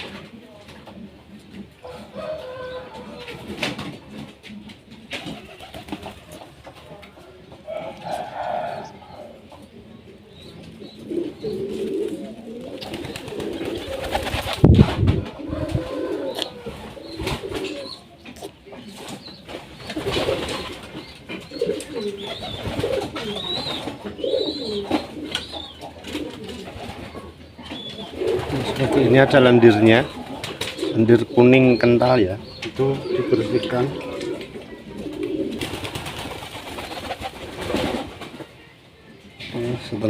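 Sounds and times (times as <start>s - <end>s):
pigeons cooing: 0.0s - 40.0s.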